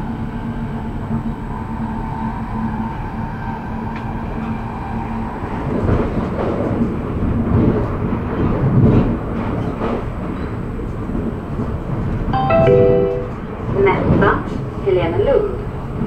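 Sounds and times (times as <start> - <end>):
train rattling and clatter: 0.0 - 12.3, 13.3 - 16.0
train wheels rumbling on rail: 0.0 - 12.3, 13.6 - 16.0.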